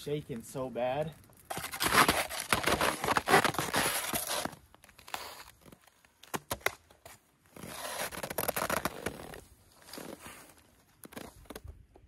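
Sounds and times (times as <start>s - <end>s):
rustling and scraping: 1.2s - 11.8s.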